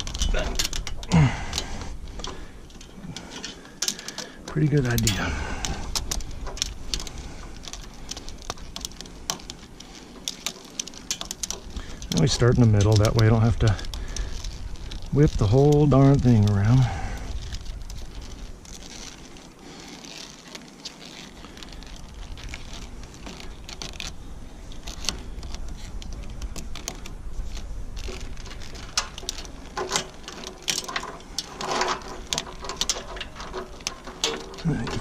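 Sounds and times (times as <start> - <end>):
plastic wrap clicking and rustling: 0.0 - 35.0.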